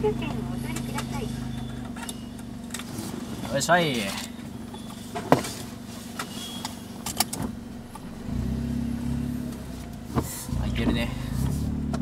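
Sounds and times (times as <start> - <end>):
car engine idling: 0.0 - 12.0
car engine pulling away: 0.0 - 12.0.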